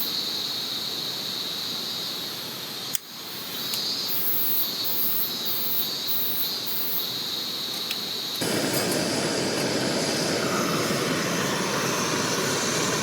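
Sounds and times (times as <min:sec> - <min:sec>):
insects calling: 0:00.0 - 0:13.0.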